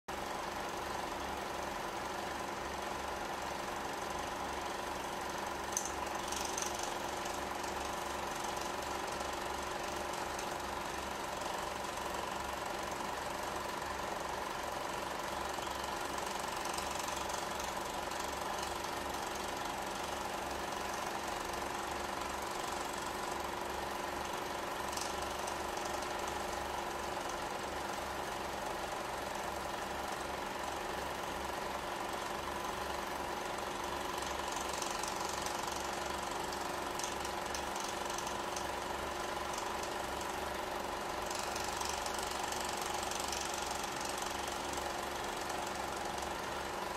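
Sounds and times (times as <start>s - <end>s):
film projector clattering: 0.1s - 46.9s.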